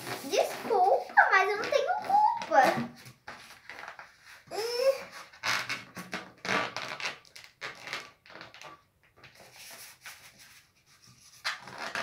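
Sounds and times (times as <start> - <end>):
balloon rubbing and squeaking: 0.0 - 8.7, 11.0 - 12.0.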